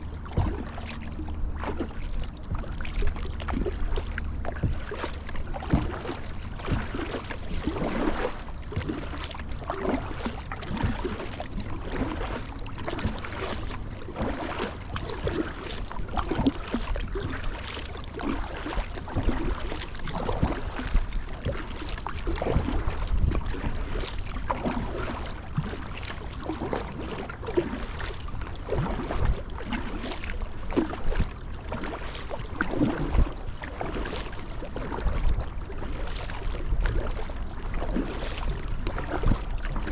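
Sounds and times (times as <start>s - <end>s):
low steady rumble: 0.0s - 39.9s
paddle splashing in water: 0.0s - 39.9s.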